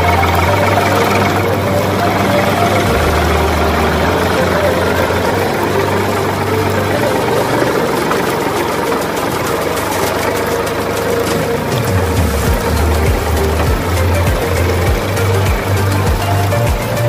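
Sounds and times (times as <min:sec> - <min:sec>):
motor humming: 0:00.0 - 0:17.0
water splashing onto gravel: 0:00.0 - 0:17.0.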